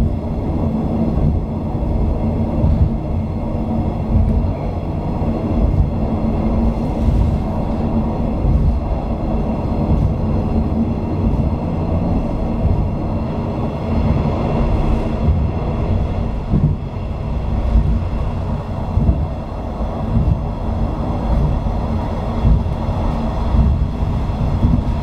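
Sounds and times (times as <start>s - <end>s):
train running low rumble: 0.0s - 25.0s.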